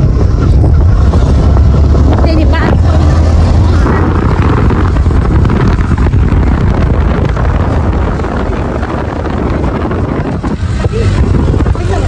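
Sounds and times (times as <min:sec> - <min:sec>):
motorcycle engine and road noise: 0:00.0 - 0:12.0
wind buffeting microphone: 0:00.0 - 0:12.0.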